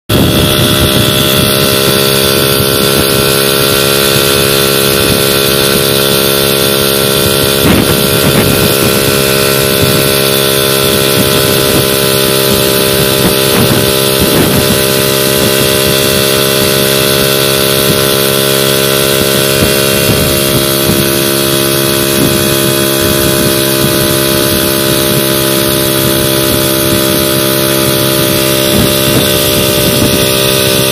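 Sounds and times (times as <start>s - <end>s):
moped engine buzzing: 0.0s - 30.9s.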